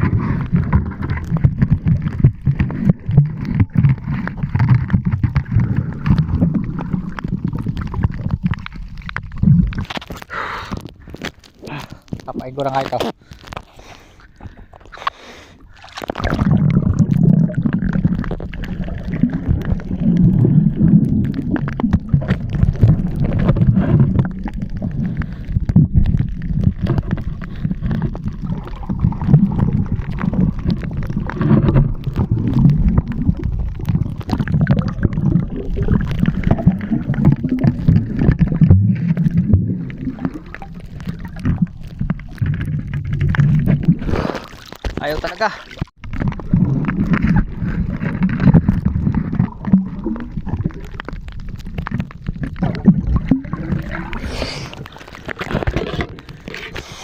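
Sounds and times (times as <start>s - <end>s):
low underwater rumble: 0.0s - 10.0s, 15.6s - 44.8s, 45.8s - 56.7s
underwater bubbles gurgling: 0.0s - 13.6s, 14.2s - 57.0s.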